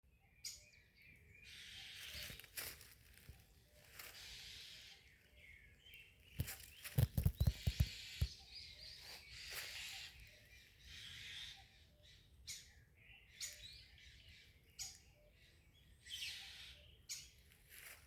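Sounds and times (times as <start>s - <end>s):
wetland birds chirping: 0.3s - 18.0s.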